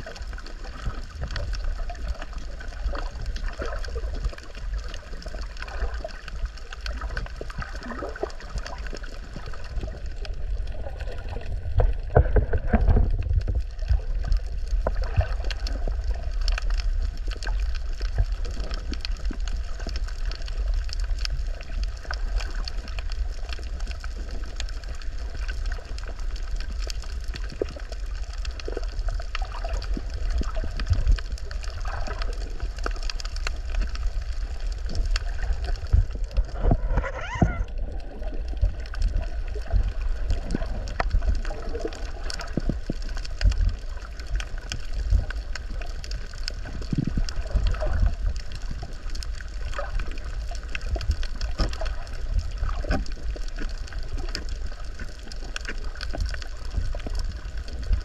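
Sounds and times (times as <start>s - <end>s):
bubbling underwater: 0.0s - 58.0s
muffled underwater water rumble: 0.0s - 58.0s
underwater clicks and gurgling: 0.0s - 58.0s.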